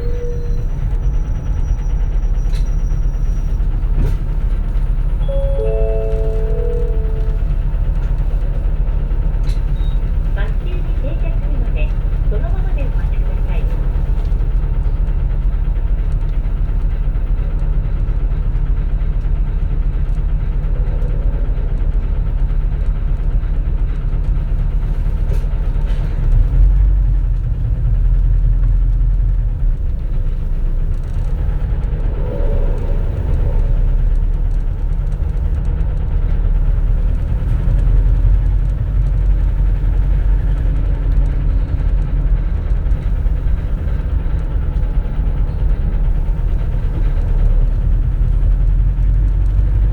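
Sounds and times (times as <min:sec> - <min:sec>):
bus engine and road rumble: 0:00.0 - 0:49.9.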